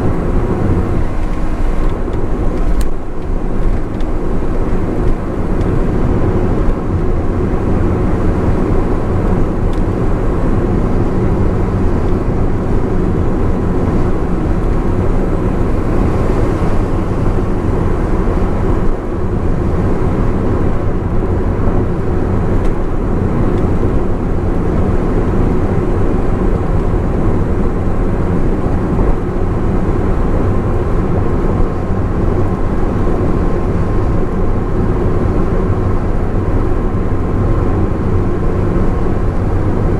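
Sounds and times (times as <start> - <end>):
car engine running: 0.0 - 39.9
tyre and road noise: 0.0 - 39.9.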